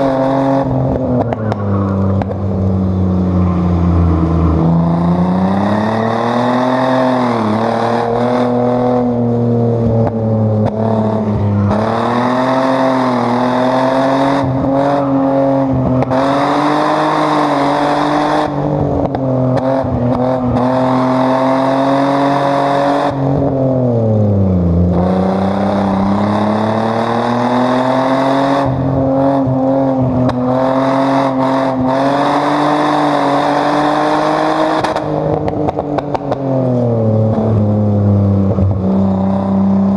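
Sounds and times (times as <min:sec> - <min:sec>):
car engine revving on track: 0:00.0 - 0:39.9.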